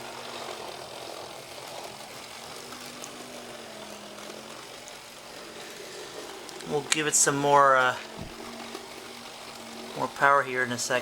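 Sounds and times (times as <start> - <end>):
model train motor humming: 0.0 - 11.0.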